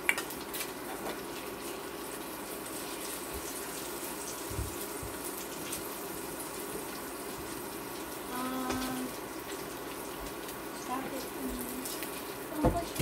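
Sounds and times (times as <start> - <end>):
eggs sizzling in a pan: 0.0 - 13.0.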